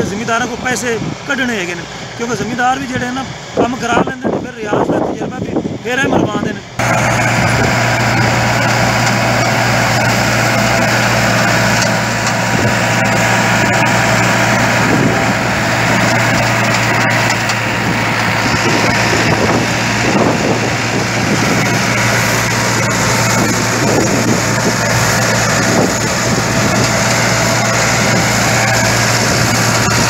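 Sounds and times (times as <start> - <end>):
straw chopping machine drone: 0.0 - 30.0
tractor diesel engine running: 0.0 - 30.0.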